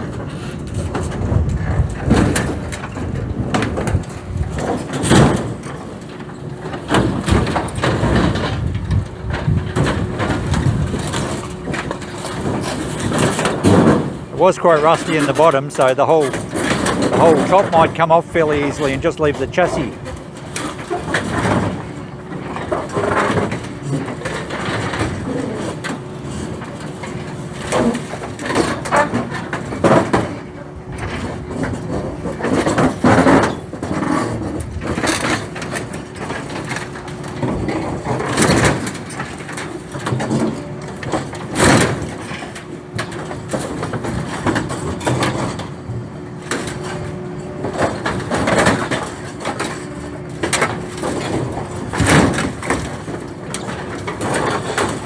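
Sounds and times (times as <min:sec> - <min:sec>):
excavator engine hum with whine: 0:00.0 - 0:55.0.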